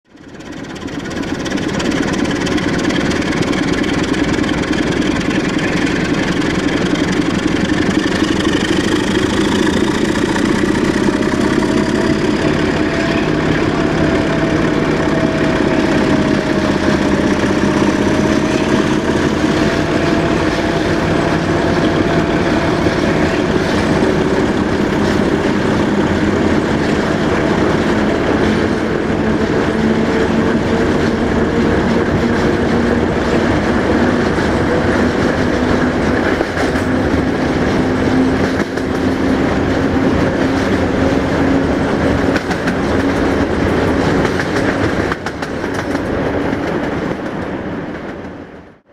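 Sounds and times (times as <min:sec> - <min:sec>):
diesel locomotive engine running hard: 0:00.0 - 0:48.9.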